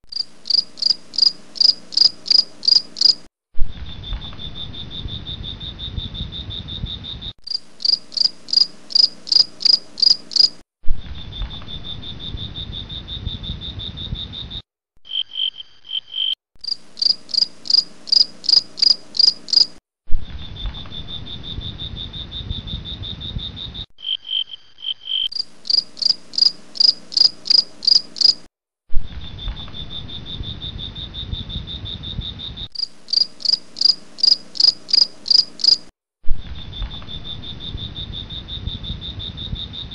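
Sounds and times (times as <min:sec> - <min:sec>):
cricket trilling: 0:00.1 - 0:03.3, 0:04.0 - 0:10.6, 0:11.2 - 0:19.8, 0:20.5 - 0:28.5, 0:29.4 - 0:35.9, 0:36.6 - 0:39.9
cricket chirps: 0:00.1 - 0:28.5, 0:29.2 - 0:35.9, 0:36.5 - 0:39.9.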